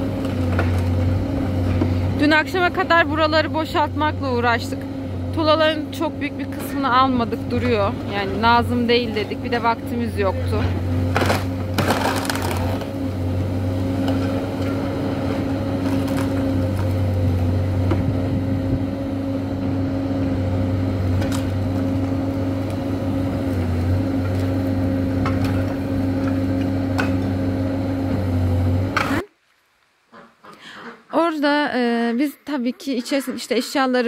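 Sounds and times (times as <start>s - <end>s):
engine humming steadily: 0.0s - 29.2s.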